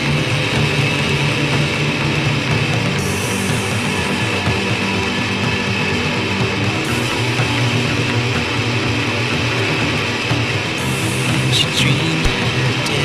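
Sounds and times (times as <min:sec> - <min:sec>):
bass guitar: 0:00.0 - 0:13.0
dense electric guitar wall: 0:00.0 - 0:13.0.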